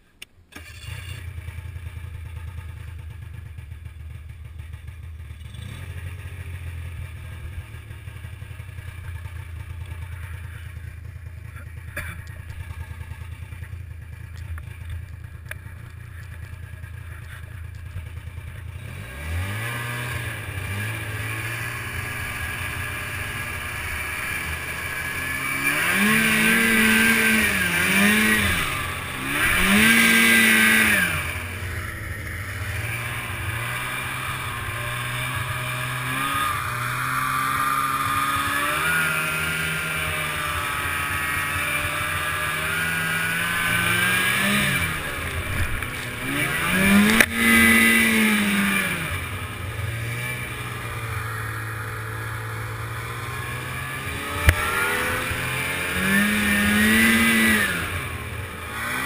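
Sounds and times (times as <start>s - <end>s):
snowmobile engine: 0.0s - 59.0s.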